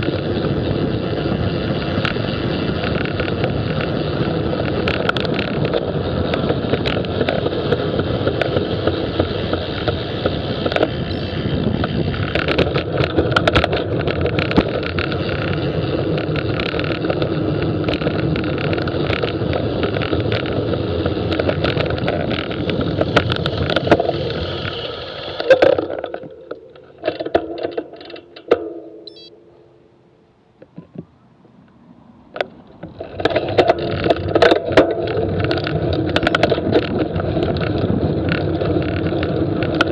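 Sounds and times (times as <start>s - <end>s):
bicycle rattles and clicks: 0.0s - 29.2s, 30.6s - 39.9s
wind and road noise on microphone: 0.0s - 39.9s.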